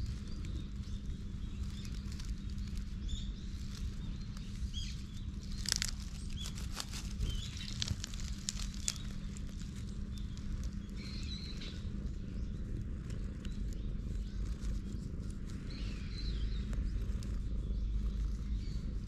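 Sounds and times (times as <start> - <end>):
dry leaves crackling and rustling: 0.0 - 19.0
low steady rumble: 0.0 - 19.0.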